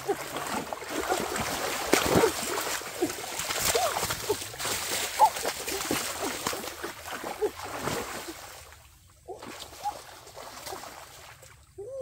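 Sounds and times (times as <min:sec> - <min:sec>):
shallow water splashing: 0:00.0 - 0:11.8.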